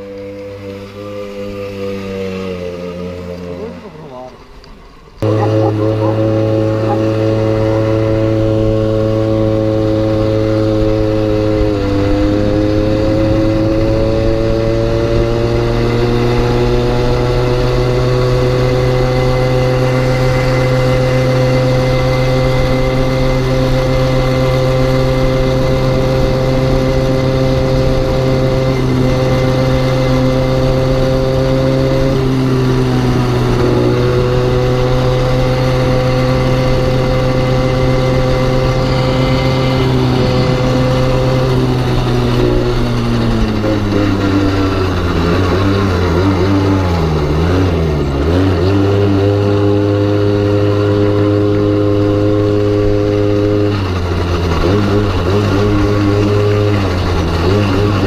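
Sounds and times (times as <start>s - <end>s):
two-stroke engine running: 5.2s - 58.0s.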